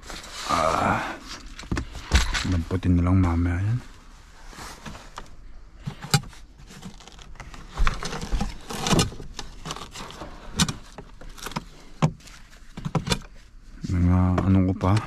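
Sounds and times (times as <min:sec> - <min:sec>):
belongings being handled and packed: 0:00.0 - 0:15.0.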